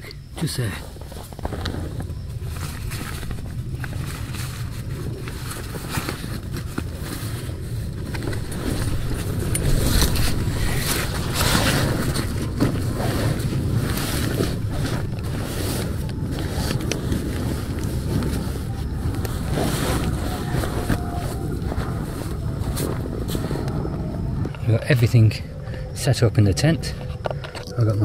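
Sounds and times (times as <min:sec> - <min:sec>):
steady low rumble: 0:00.2 - 0:28.0
rustling of backpack and bedding: 0:00.6 - 0:24.6.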